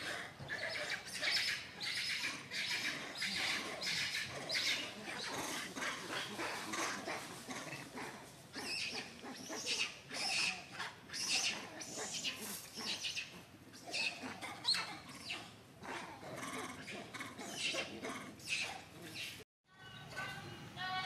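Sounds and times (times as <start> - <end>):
monkeys squeaking and grunting: 0.0 - 19.4.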